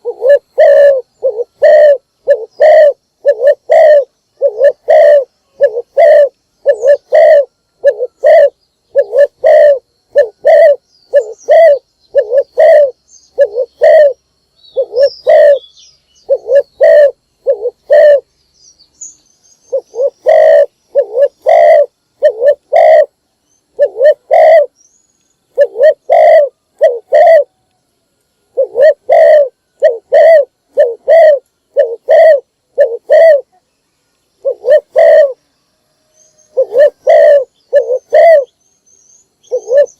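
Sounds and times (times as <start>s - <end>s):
dove cooing: 0.0s - 18.3s, 19.7s - 23.1s, 23.7s - 24.8s, 25.5s - 27.6s, 28.5s - 33.6s, 34.4s - 35.4s, 36.4s - 38.5s, 39.4s - 39.9s
faint high bird chirps: 0.0s - 39.9s.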